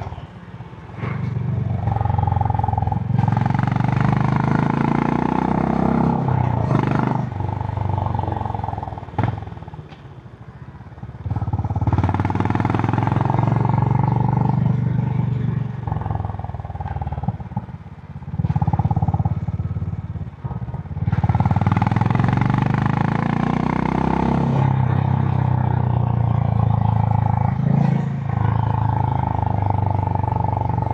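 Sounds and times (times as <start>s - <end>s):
motorcycle engine revving: 0.0s - 9.8s, 11.0s - 30.9s.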